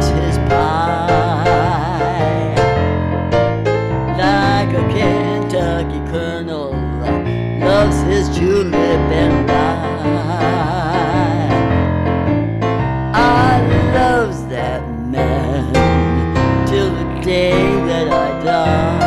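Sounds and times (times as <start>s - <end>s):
piano chords on keyboard: 0.0s - 19.0s.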